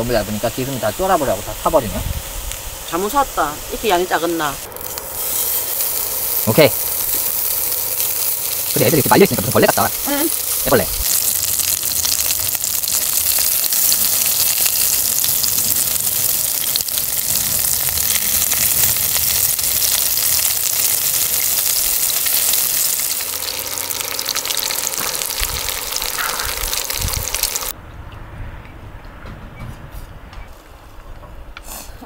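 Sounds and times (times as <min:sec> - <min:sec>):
beef sizzling in a hot pan: 0:00.0 - 0:27.8.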